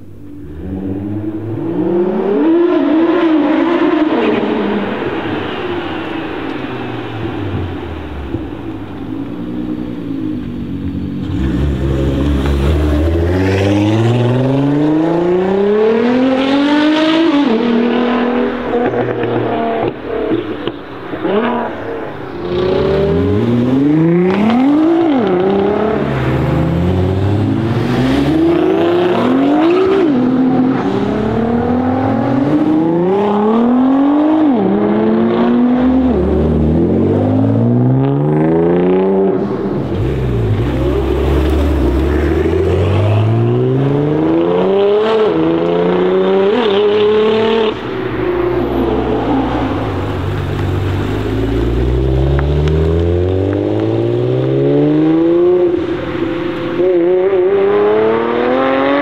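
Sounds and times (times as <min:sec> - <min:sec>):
car engine accelerating hard: 0:06.4 - 0:20.4, 0:22.4 - 0:59.0.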